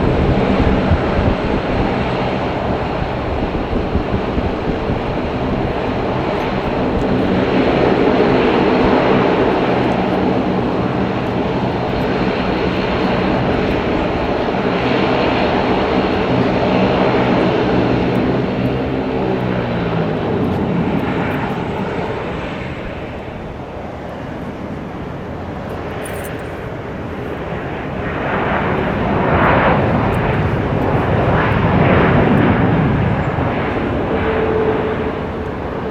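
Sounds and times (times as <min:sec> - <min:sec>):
jet airliner engines: 0:00.0 - 0:35.9.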